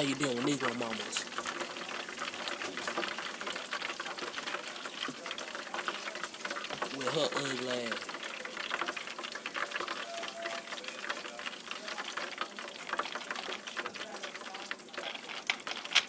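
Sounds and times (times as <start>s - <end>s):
chicken deep-frying in hot oil: 0.0s - 16.0s.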